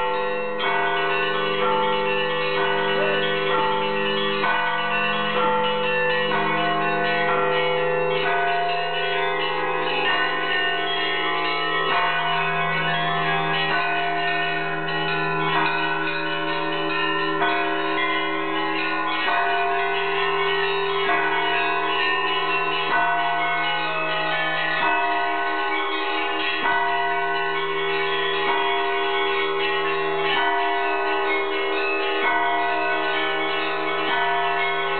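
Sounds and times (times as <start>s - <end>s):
church bells ringing: 0.0s - 34.9s
steady low bell tone: 0.0s - 34.9s.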